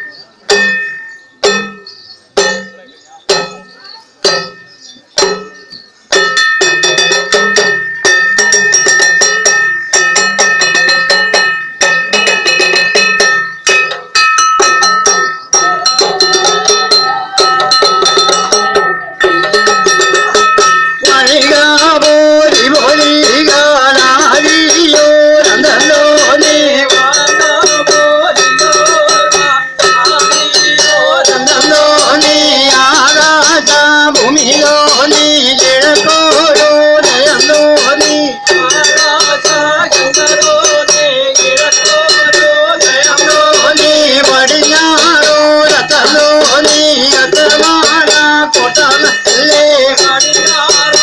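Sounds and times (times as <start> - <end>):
metallic percussion ringing: 0.0 - 51.0.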